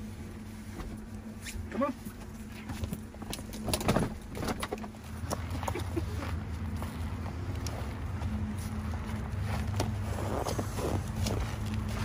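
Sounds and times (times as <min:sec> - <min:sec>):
engine idling: 0:01.9 - 0:12.0.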